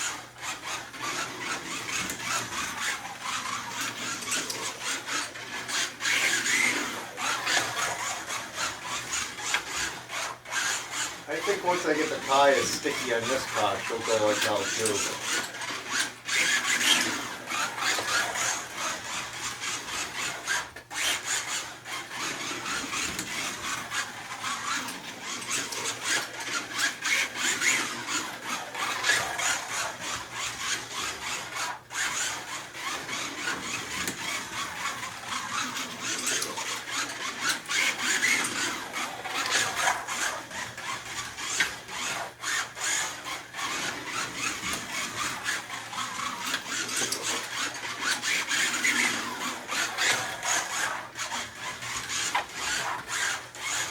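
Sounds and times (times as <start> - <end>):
slot car motor whirring: 0.0 - 53.9.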